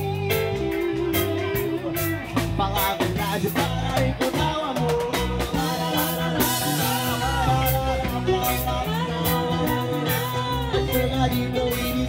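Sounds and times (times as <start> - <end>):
live rock band playing: 0.0 - 12.0
person singing: 0.0 - 12.0.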